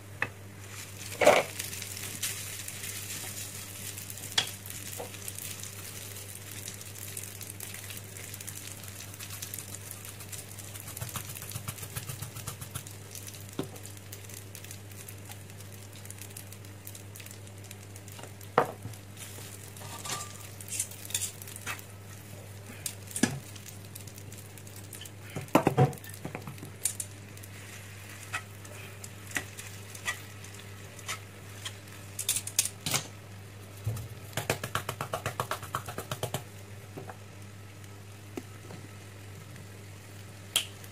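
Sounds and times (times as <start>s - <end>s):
food sizzling in a pan: 0.0s - 40.9s
steady low hum: 0.0s - 40.9s.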